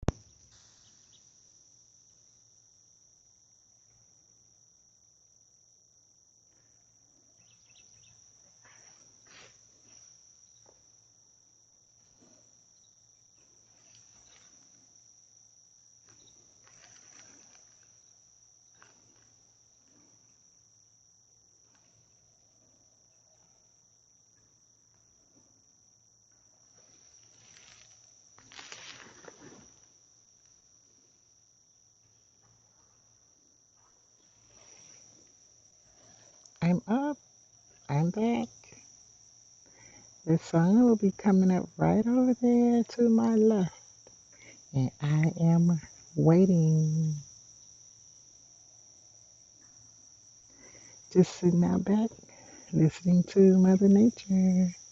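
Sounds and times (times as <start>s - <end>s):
crickets chirring: 0.1s - 54.9s.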